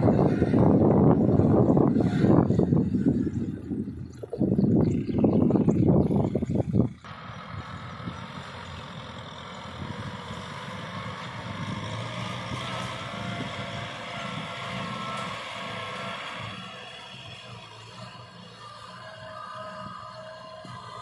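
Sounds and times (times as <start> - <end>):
rotary tiller in dry soil: 0.0 - 21.0
tractor diesel engine under load: 0.0 - 21.0.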